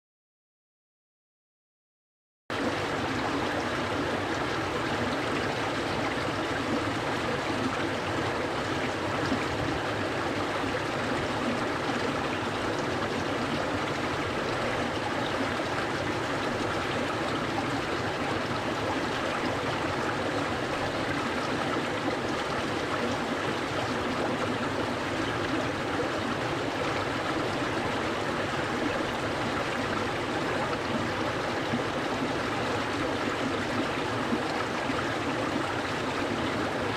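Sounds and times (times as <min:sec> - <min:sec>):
stream flowing: 0:02.5 - 0:36.9.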